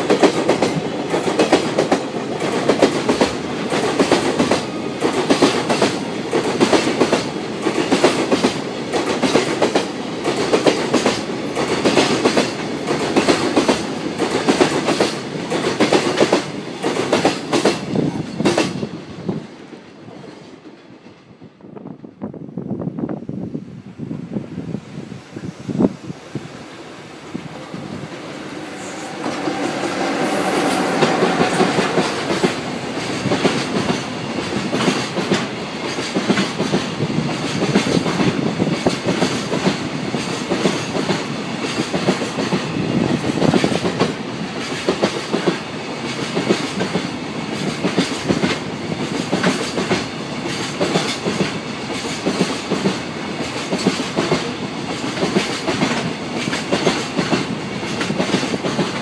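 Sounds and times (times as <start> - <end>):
electric locomotive passing: 0.0 - 59.0.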